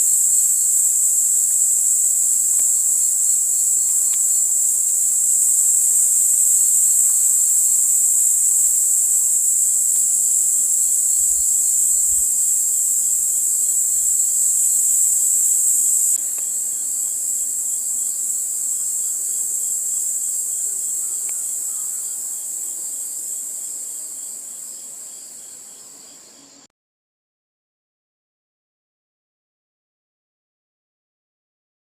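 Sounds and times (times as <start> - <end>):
high-pitched insect chorus: 0.0 - 26.7.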